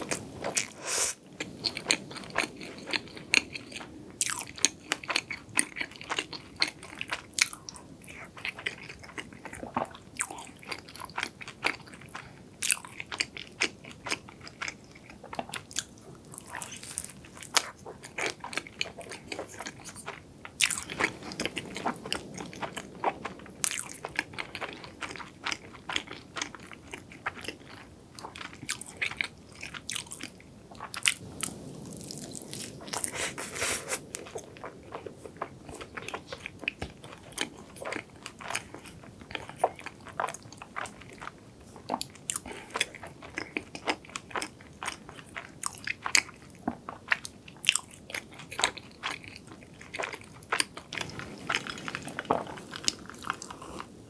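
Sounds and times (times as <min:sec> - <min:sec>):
chewing flaky pastry: 0:00.0 - 0:54.0.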